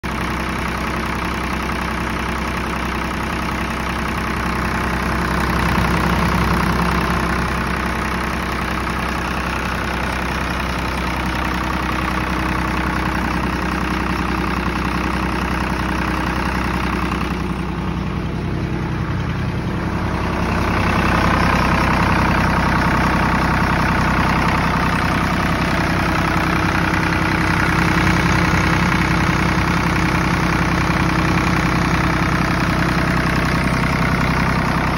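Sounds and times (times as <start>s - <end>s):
diesel generator engine running: 0.0s - 34.9s.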